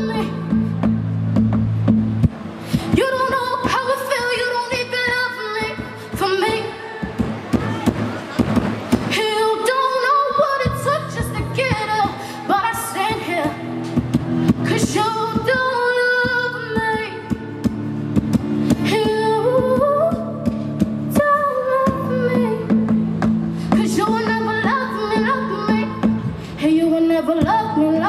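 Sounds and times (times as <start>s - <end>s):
woman singing: 0.0s - 1.0s, 2.7s - 7.9s, 9.1s - 17.9s, 18.7s - 28.0s
acoustic guitar: 0.0s - 28.0s.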